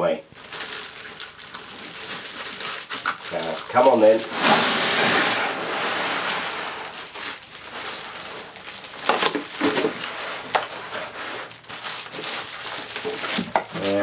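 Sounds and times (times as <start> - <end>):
plastic wrapping crinkling: 0.3 - 14.0.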